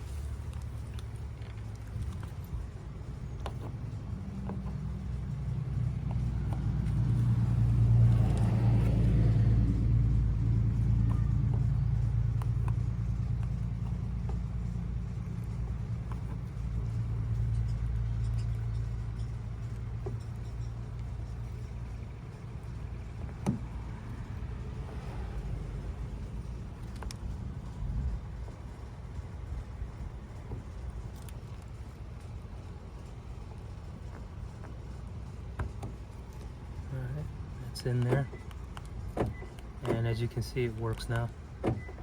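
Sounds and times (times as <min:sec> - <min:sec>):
vehicle engine rumbling: 0:00.0 - 0:42.0.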